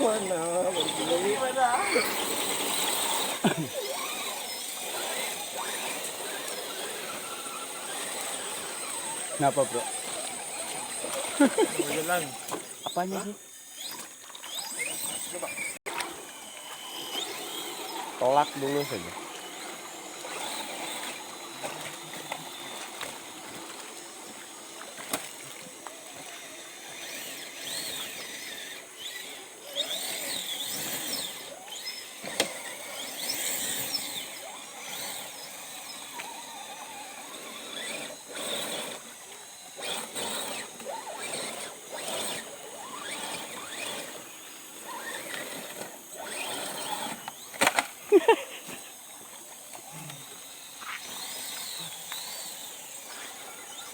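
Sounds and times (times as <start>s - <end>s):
rc car motor whining: 0.0s - 53.9s.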